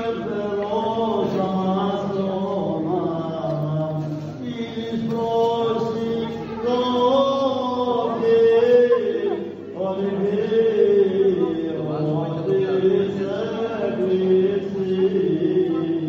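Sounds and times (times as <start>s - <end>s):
voices chanting a slow hymn: 0.0s - 16.0s.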